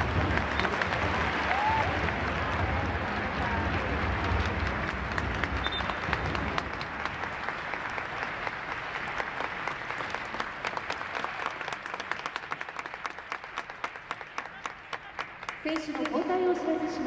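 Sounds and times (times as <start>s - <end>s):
stadium crowd clapping: 0.0s - 17.0s.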